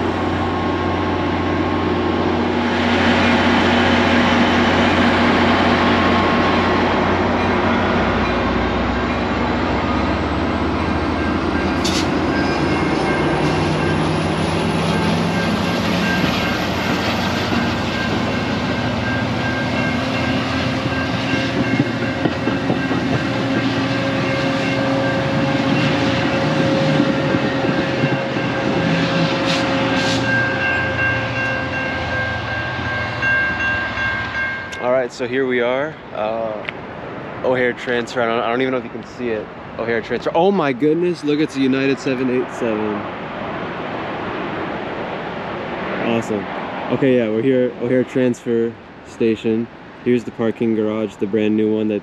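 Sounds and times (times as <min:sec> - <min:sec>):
train rumbling past: 0:00.0 - 0:52.0.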